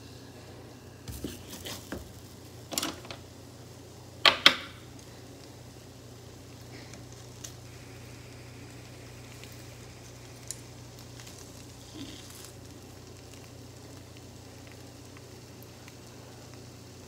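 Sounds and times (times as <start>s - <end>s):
potatoes sizzling in frying pan: 0.8s - 17.0s.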